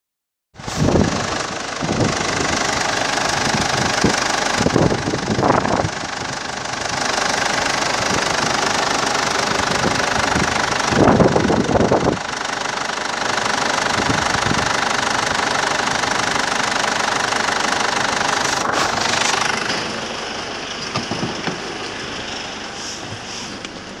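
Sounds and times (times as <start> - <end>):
diesel engine idling: 0.6 - 24.0.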